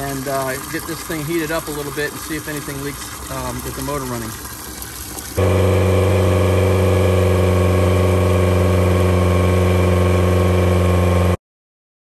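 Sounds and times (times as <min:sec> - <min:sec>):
outboard engine running: 0:00.0 - 0:11.4.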